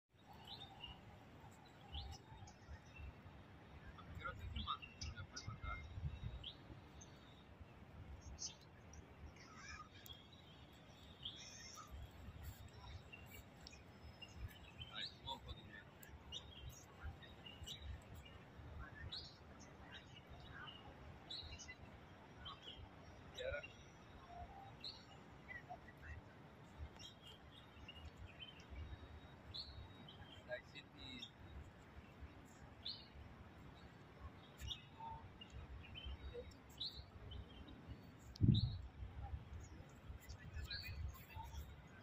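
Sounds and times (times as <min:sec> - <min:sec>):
soft bird chirps: 0:00.2 - 0:42.0.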